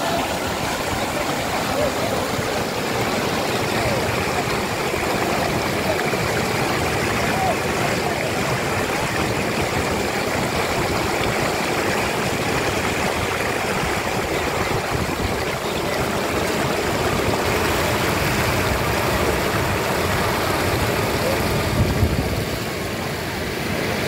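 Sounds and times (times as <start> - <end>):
whitewater rushing over rocks: 0.0 - 24.0.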